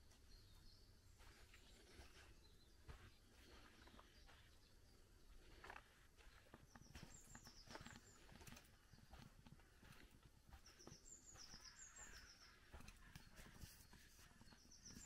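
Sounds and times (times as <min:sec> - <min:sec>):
songbird singing: 0:00.0 - 0:15.0
footsteps on wet dirt: 0:01.2 - 0:15.0.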